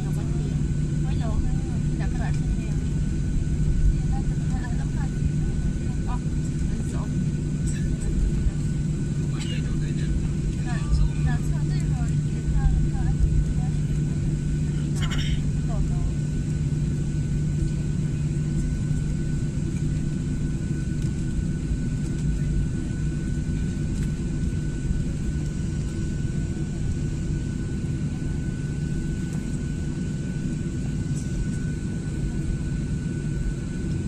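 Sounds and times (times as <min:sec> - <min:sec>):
jet engines humming in cabin: 0:00.0 - 0:34.0.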